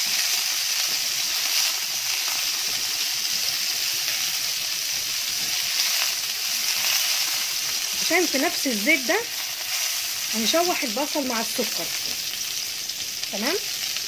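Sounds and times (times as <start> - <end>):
meatballs sizzling in hot oil: 0.0 - 14.0.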